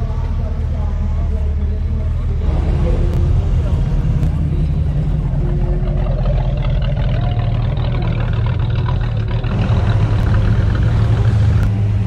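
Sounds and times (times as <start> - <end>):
car engines rolling past: 0.0 - 12.0.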